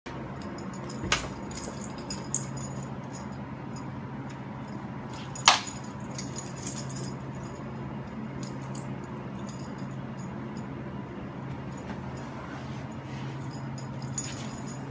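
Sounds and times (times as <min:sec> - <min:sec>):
collar and leash clinking: 0:00.1 - 0:10.7, 0:13.5 - 0:14.9
steady low hum: 0:00.1 - 0:14.9.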